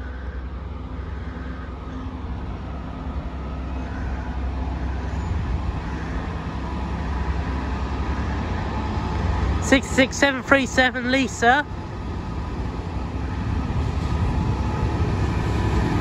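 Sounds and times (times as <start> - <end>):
diesel locomotive engine humming: 0.0 - 16.0.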